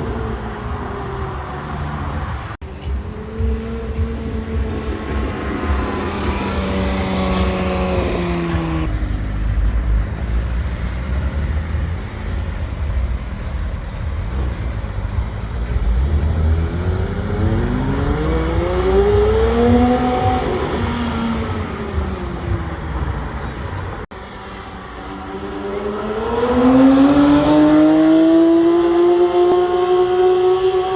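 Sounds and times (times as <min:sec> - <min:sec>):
traffic rumble: 0:00.0 - 0:30.9
sports car engine revving: 0:02.9 - 0:23.6, 0:25.2 - 0:30.9.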